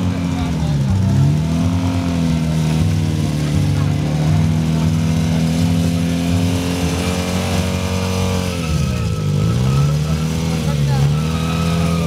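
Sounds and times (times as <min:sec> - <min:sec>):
motorcycle engine revving high: 0:00.0 - 0:12.0.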